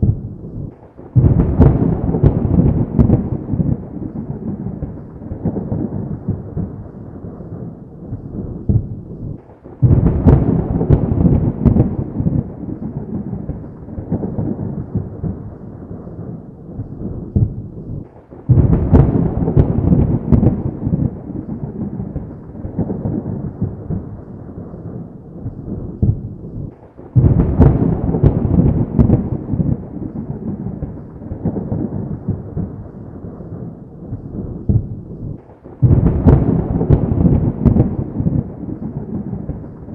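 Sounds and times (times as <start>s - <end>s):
loud thunder claps: 0.0s - 39.9s
thunder rumbling: 0.0s - 39.9s.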